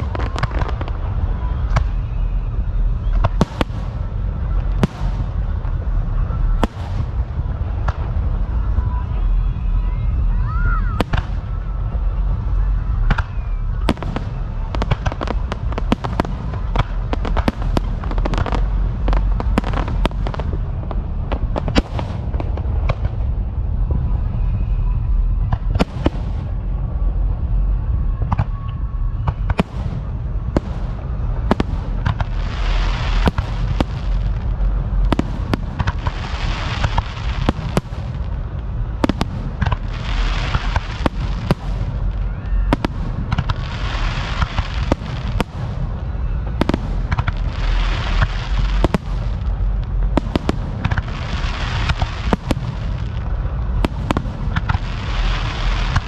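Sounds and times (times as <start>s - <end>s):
fireworks bangs and cracks: 0.0s - 56.0s
fireworks crackling: 0.0s - 56.0s
low rumble: 0.0s - 56.0s.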